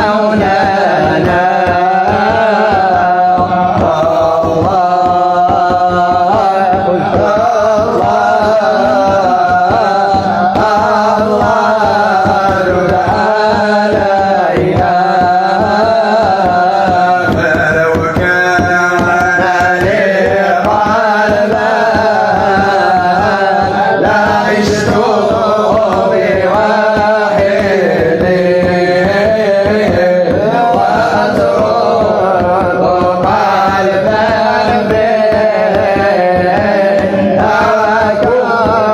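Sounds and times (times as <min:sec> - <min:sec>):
percussion beat: 0:00.0 - 0:38.9
person singing devotional song: 0:00.0 - 0:38.9.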